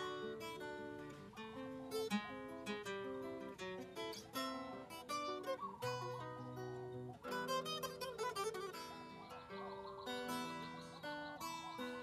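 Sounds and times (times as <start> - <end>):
acoustic guitar plucked melody: 0.0 - 12.0.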